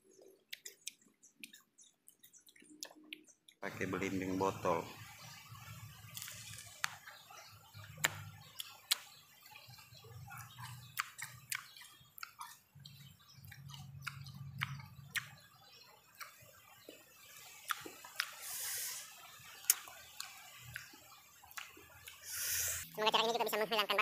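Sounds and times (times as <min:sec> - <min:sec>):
mouth clicks and smacks: 0:00.1 - 0:03.6, 0:06.2 - 0:15.5, 0:16.1 - 0:22.6.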